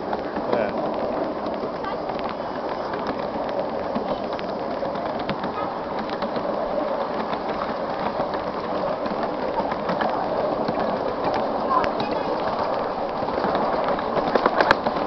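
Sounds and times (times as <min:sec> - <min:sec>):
wheels clicking over rail joints: 0:00.0 - 0:15.0
wheels rumbling on rail: 0:00.0 - 0:15.0.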